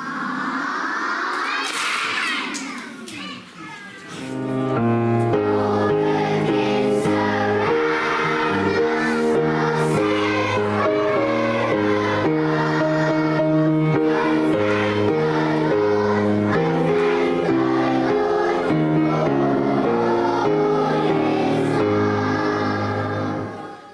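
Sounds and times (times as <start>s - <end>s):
children's choir singing: 0.0s - 23.9s
instrumental accompaniment: 4.4s - 23.8s.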